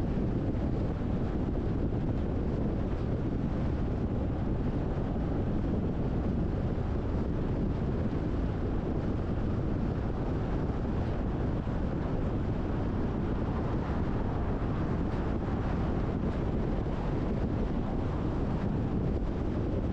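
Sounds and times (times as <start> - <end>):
car road and wind noise: 0.0 - 19.9.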